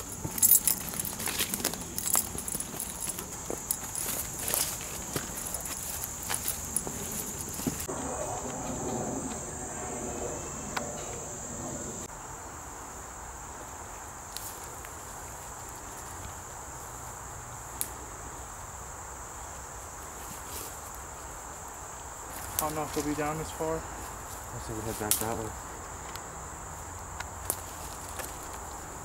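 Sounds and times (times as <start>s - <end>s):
insect chorus buzzing: 0.0s - 29.0s.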